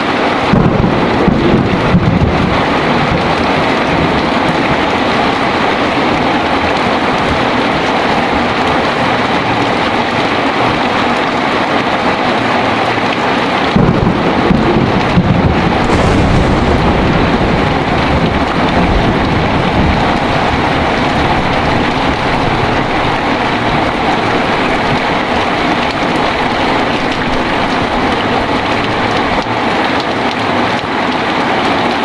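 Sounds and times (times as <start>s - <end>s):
heavy rain: 0.0s - 32.0s
thunder rumbling: 0.4s - 12.6s, 13.2s - 30.7s.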